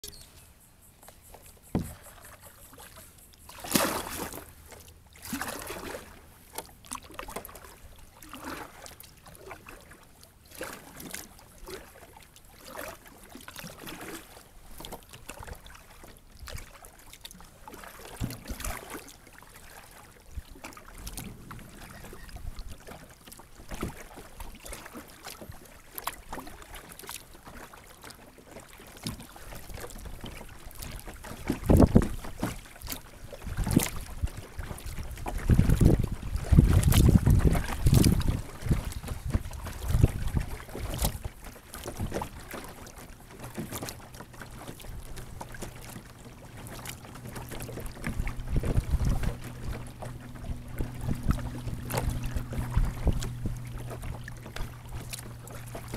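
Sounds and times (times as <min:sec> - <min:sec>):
water lapping around kayak: 0:00.0 - 0:55.9
paddle splashing in water: 0:01.1 - 0:55.9.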